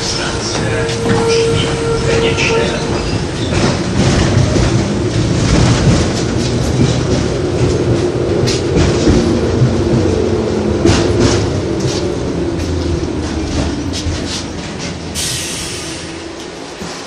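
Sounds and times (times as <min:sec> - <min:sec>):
clacks over rail joints: 0:00.0 - 0:15.4
tram wheels rumbling on rails: 0:00.0 - 0:17.0.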